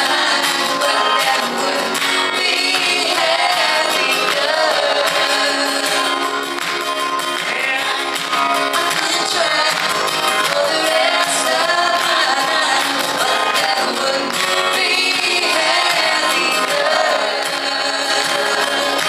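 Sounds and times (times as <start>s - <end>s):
woman singing: 0.0s - 6.5s, 8.6s - 19.0s
country band playing: 0.0s - 19.0s.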